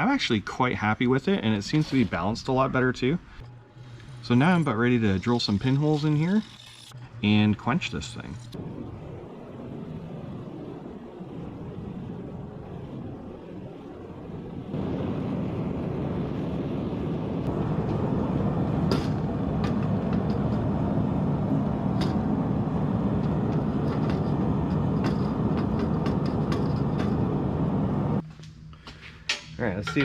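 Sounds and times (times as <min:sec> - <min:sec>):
gas forge burner roaring: 0:00.0 - 0:30.0.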